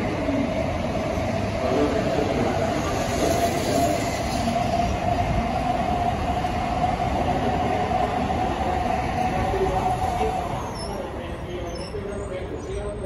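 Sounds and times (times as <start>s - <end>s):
train rolling rumble: 0.0s - 13.0s
train whine: 0.0s - 13.0s.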